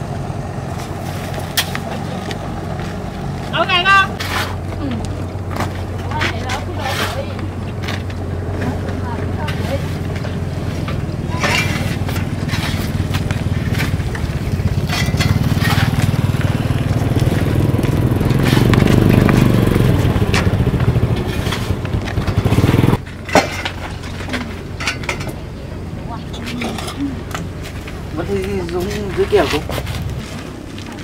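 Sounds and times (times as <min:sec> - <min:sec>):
motor hum: 0:00.0 - 0:31.0
hand cart rattling on gravel: 0:00.5 - 0:31.0.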